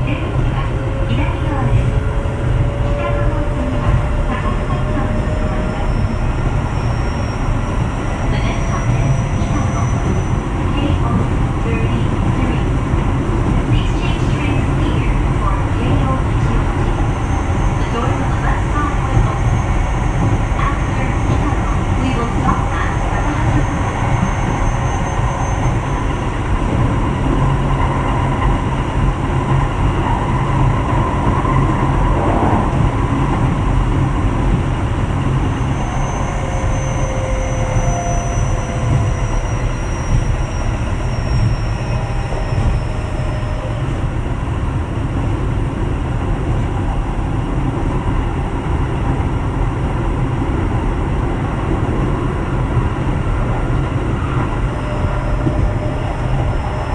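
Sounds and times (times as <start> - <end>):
electric train inverter tones: 0.0 - 45.9, 47.9 - 56.9
train wheels rumbling on rail: 0.0 - 56.9.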